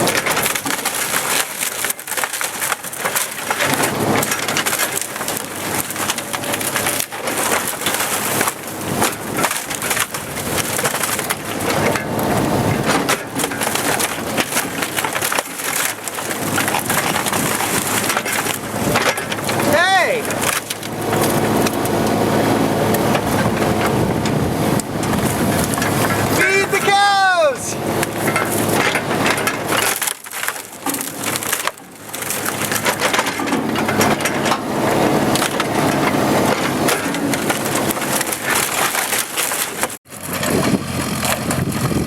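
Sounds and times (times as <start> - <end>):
diesel engine running: 0.0 - 42.0
timbers cracking and crashing: 0.0 - 42.0.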